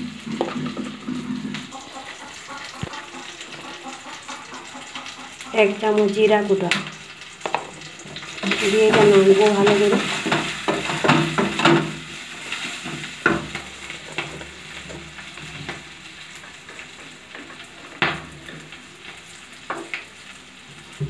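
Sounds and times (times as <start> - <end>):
spatula scraping and knocking pan: 0.0 - 5.5, 7.4 - 20.0
food sizzling in oil: 0.0 - 21.0.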